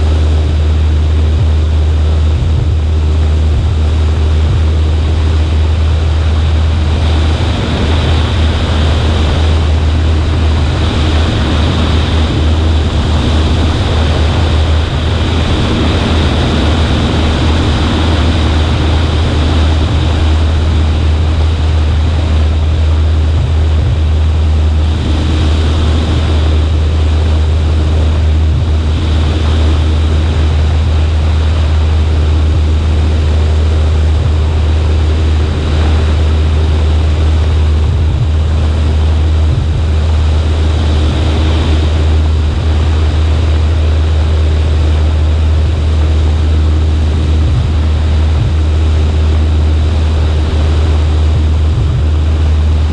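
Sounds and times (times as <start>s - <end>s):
airflow rush: 0.0s - 52.9s
propeller plane engine droning: 0.0s - 52.9s.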